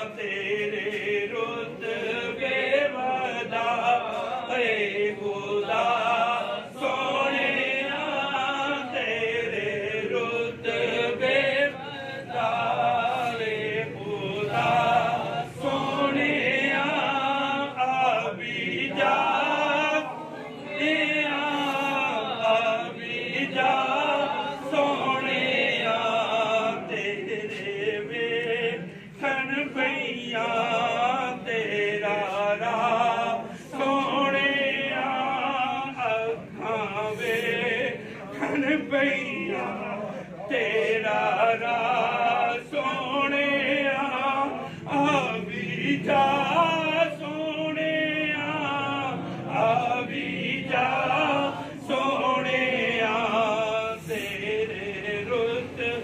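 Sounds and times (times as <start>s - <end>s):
man singing devotional verse: 0.0s - 56.0s.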